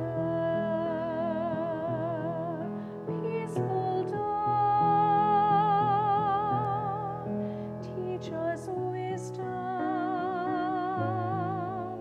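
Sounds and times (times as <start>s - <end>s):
piano chords: 0.0s - 12.0s
soprano singing a hymn: 0.0s - 12.0s.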